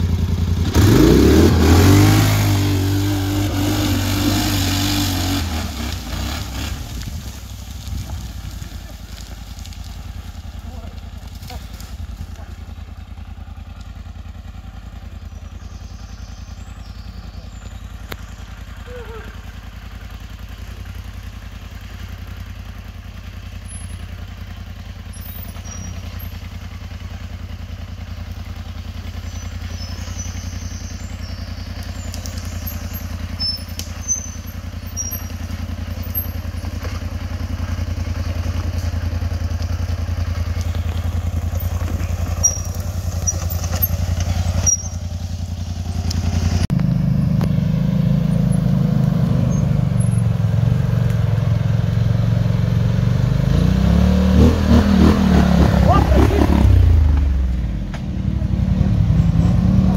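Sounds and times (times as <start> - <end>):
deep quad bike engine working hard: 0.0 - 59.9
quad bike engine running: 0.0 - 59.9.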